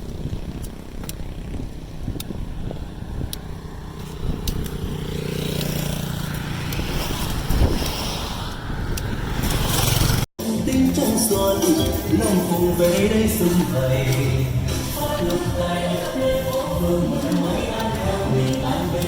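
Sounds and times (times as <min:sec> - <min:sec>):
motorbike engine humming: 0:00.0 - 0:19.0
wind and road noise: 0:00.0 - 0:19.0.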